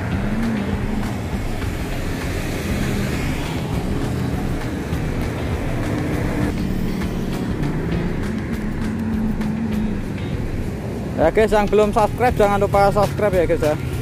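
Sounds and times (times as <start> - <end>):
faint background music: 0.0 - 14.0
road traffic noise: 0.0 - 14.0.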